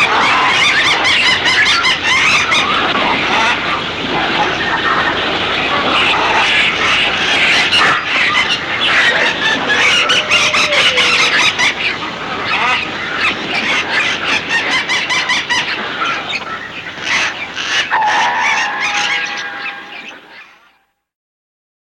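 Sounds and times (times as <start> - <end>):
flock of birds squawking: 0.0 - 20.5.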